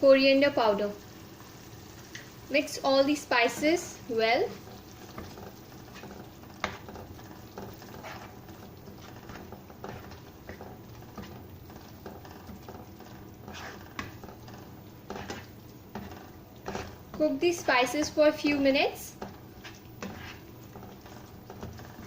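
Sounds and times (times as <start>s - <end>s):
masala bubbling: 0.2s - 22.0s
utensil scraping wok: 0.8s - 22.0s.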